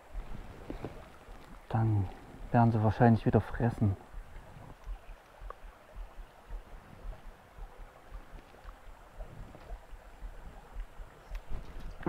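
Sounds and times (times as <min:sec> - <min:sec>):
low thumps: 0:00.0 - 0:12.0
stream trickling over gravel: 0:00.0 - 0:12.0.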